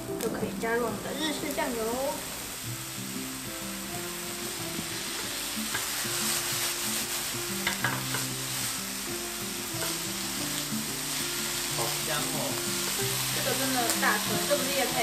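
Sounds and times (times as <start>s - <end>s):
food sizzling in a frying pan: 0.0s - 15.0s
soft background music: 0.0s - 15.0s.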